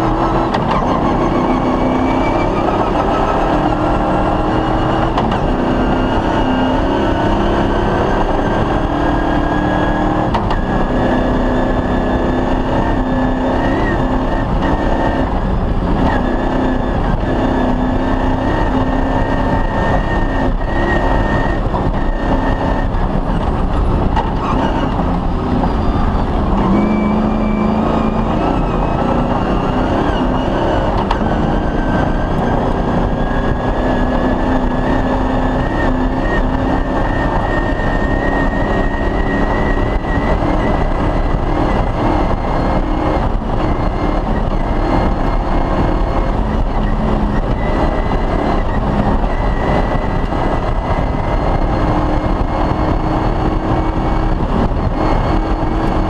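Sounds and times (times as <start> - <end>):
rally car engine running hard: 0.0 - 56.0
road and tyre noise: 0.0 - 56.0.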